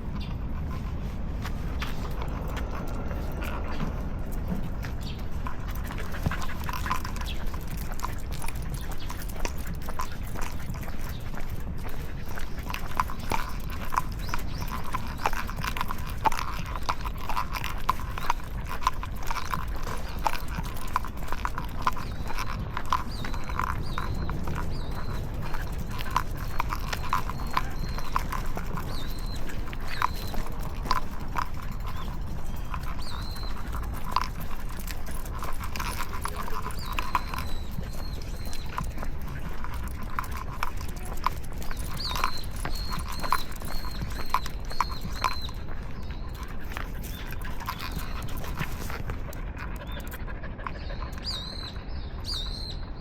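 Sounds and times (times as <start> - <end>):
footsteps on pavement: 0.0 - 51.2
low street rumble: 0.0 - 52.2
dog claws clicking: 1.4 - 50.2.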